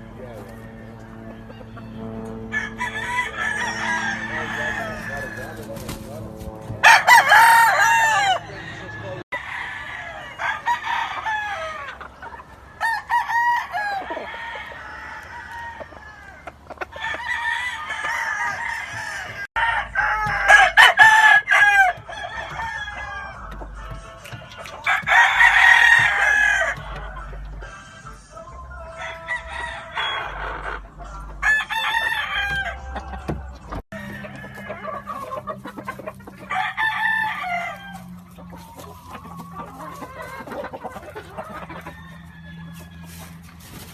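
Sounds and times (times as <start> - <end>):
chickens clucking: 0.0 - 43.9
roosters crowing: 0.0 - 43.9.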